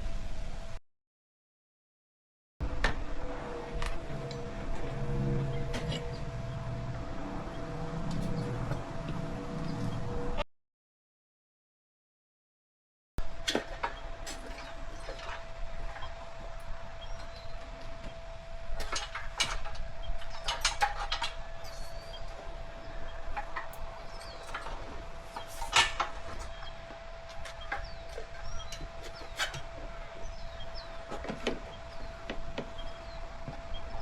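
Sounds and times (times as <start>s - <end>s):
faint hum: 2.6s - 10.4s, 13.2s - 34.0s.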